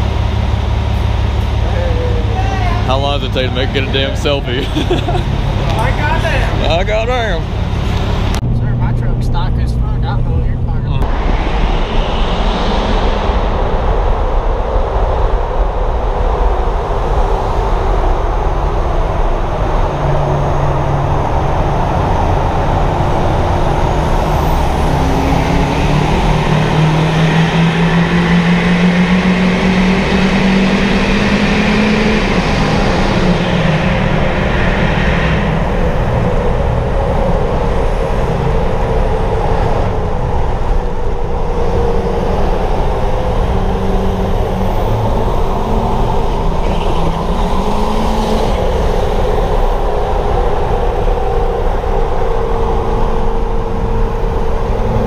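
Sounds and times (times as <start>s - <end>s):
engine accelerating: 0.0s - 55.0s
high whine: 0.0s - 55.0s
truck engines and road noise in tunnel: 0.0s - 55.0s.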